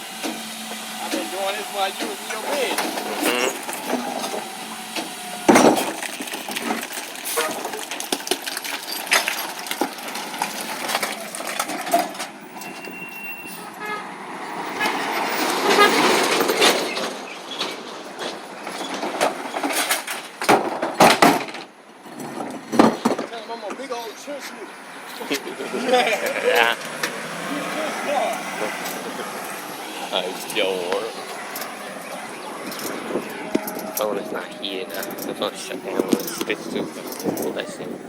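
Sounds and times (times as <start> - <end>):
clanks and knocks of recyclables: 0.0 - 13.8, 14.6 - 38.0
recycling truck running: 0.0 - 38.0.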